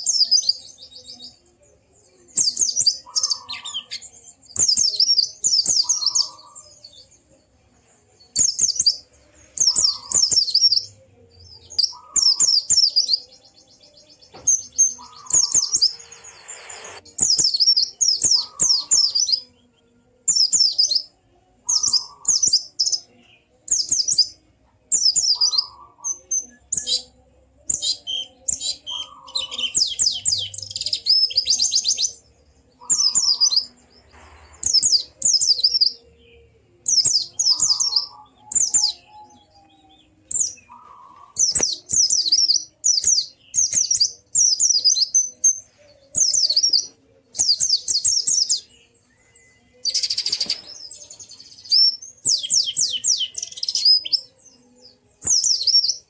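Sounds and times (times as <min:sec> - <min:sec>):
bird chirping warbles and trills: 0:00.0 - 0:56.0.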